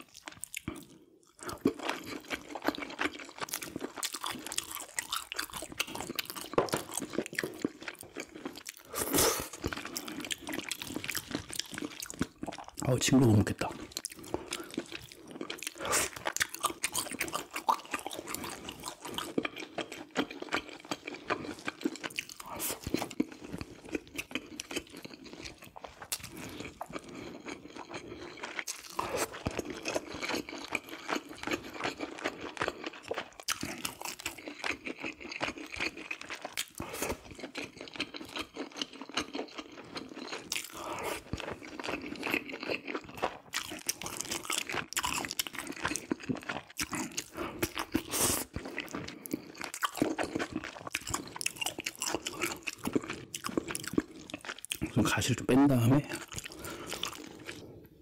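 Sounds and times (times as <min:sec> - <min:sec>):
chewing with crunches and clicks: 0:00.0 - 0:58.0.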